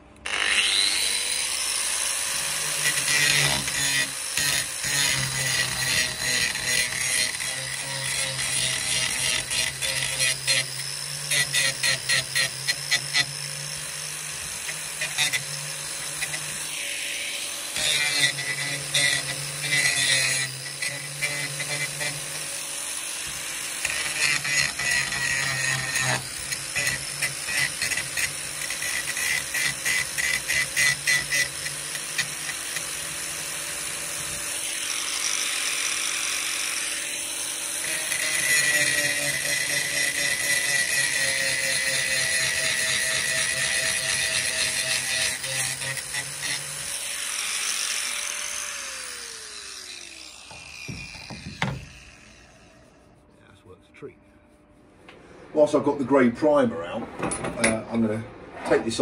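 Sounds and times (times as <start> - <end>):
angle grinder grinding steel: 0.0 - 53.3.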